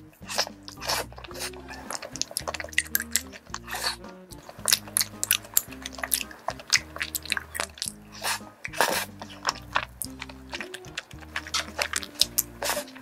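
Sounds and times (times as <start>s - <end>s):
background music with bass: 0.0s - 13.0s
close-up chewing: 0.0s - 13.0s
wet mouth clicks and smacks: 0.2s - 13.0s.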